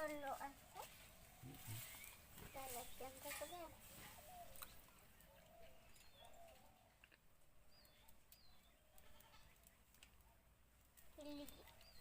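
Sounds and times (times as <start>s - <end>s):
faint distant birds chirping: 0.0s - 12.0s.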